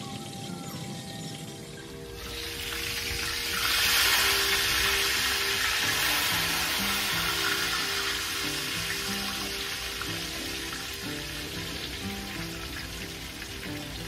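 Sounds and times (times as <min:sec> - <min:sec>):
quiet background music: 0:00.0 - 0:14.0
chicken sizzling in a skillet: 0:02.2 - 0:14.0.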